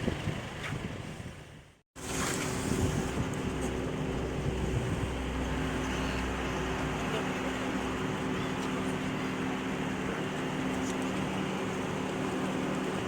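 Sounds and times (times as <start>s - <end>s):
vehicle engine running: 0.0s - 13.0s
wind and travel noise: 0.0s - 13.0s.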